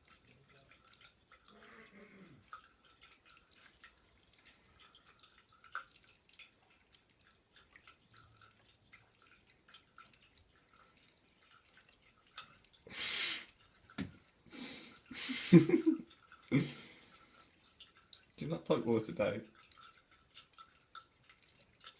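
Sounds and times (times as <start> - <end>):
water dripping into sink: 0.0 - 21.9.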